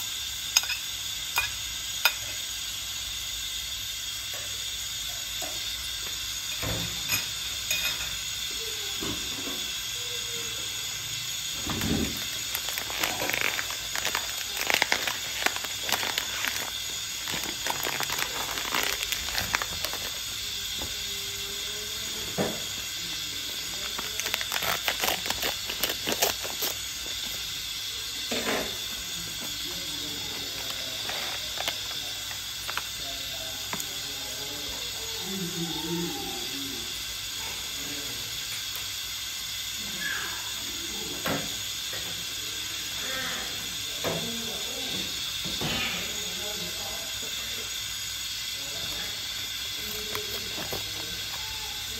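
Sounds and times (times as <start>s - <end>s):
pot simmering with crackling: 0.0s - 51.9s.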